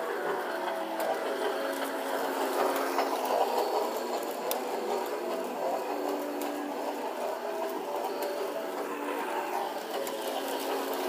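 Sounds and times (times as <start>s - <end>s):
toy train motor whirring: 0.0s - 11.0s
toy train wheels rattling: 0.0s - 11.0s.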